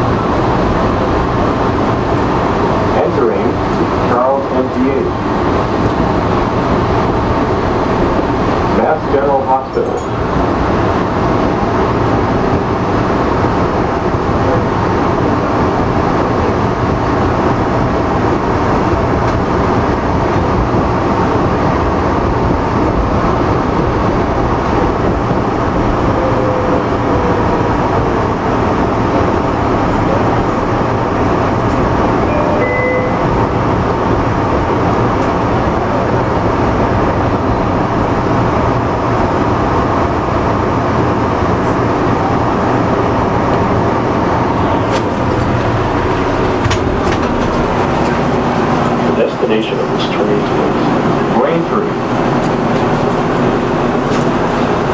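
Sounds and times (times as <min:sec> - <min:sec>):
subway train rumbling on rails: 0:00.0 - 0:54.9.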